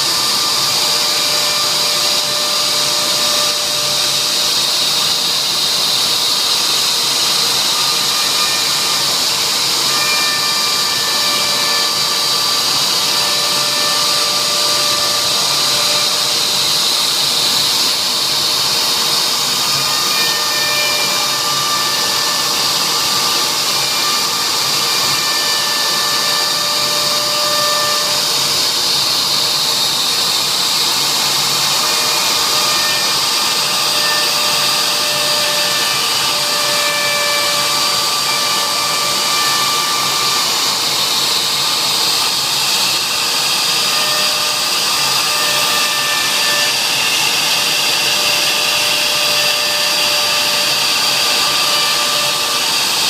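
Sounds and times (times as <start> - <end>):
router spindle whine and hiss: 0.0 - 53.0.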